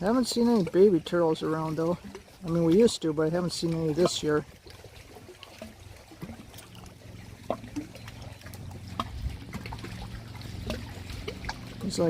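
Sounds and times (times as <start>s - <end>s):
low steady hum: 0.0s - 12.0s
water lapping and trickling: 0.0s - 12.0s.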